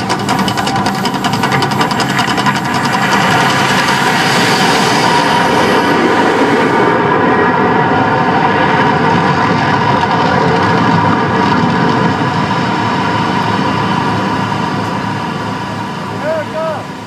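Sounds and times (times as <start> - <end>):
droning rumble of fire effects: 0.0 - 17.0.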